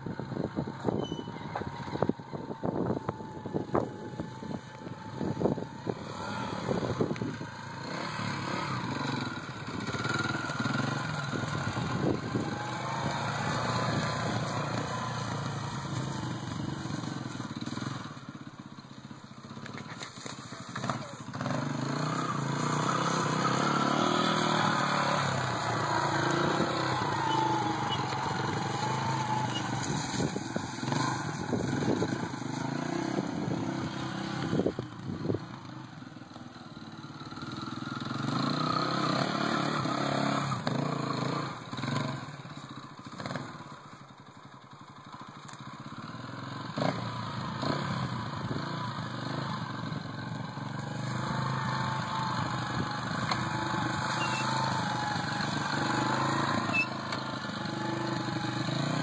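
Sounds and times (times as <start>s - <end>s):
dirt bike engine revving: 0.5s - 18.4s, 19.9s - 35.4s, 36.9s - 42.4s, 43.1s - 43.8s, 46.0s - 59.0s.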